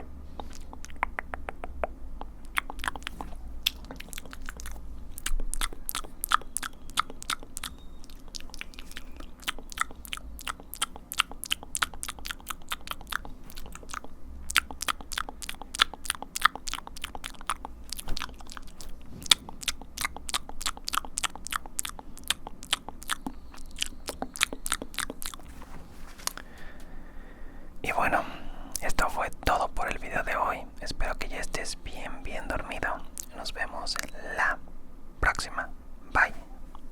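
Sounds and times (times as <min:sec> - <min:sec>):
mouth clicks and smacks: 0:00.0 - 0:25.6, 0:27.9 - 0:34.6.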